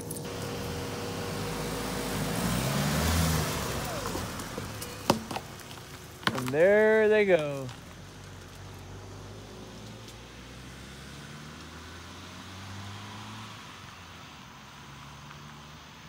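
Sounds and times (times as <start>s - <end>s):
car engine driving off: 0.0s - 16.0s.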